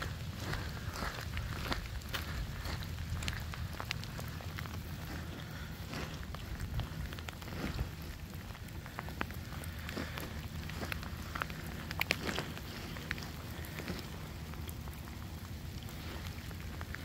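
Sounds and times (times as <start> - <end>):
freezing rain hissing and ticking: 0.0 - 17.0.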